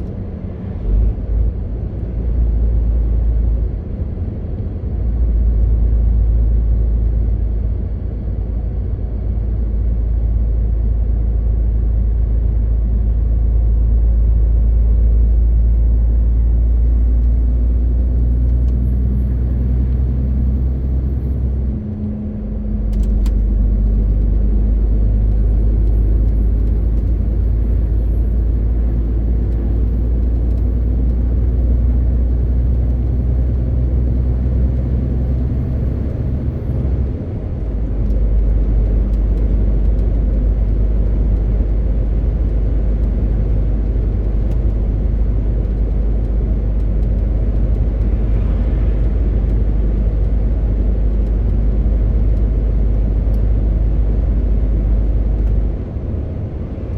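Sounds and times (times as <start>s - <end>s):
road and tyre noise: 0.0s - 56.9s.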